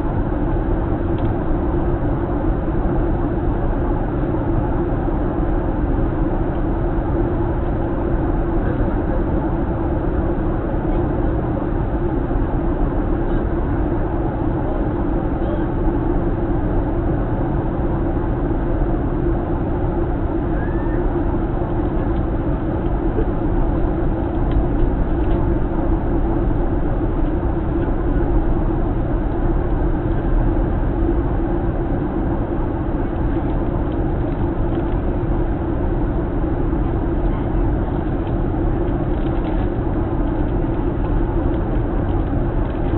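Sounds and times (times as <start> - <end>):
airliner cabin engine drone: 0.0 - 42.9.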